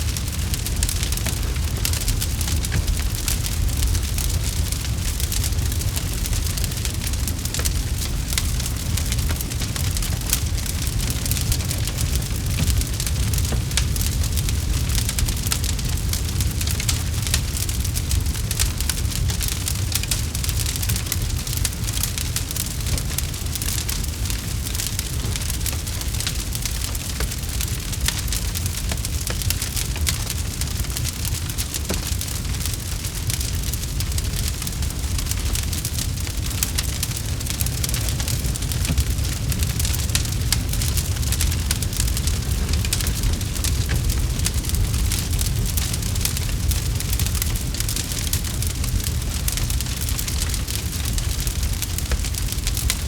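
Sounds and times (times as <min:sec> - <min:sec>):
campfire crackling: 0:00.0 - 0:53.0
low rumble of flames: 0:00.0 - 0:53.0.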